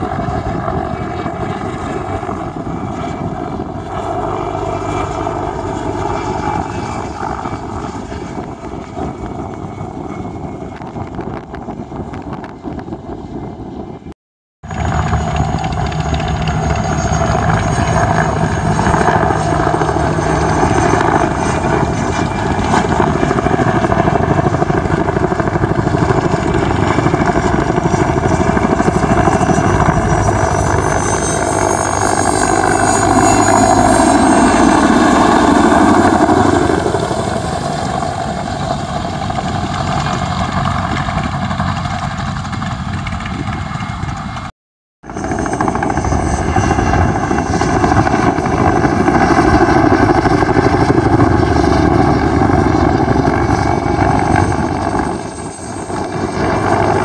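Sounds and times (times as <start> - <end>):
helicopter in flight: 0.0 - 57.0.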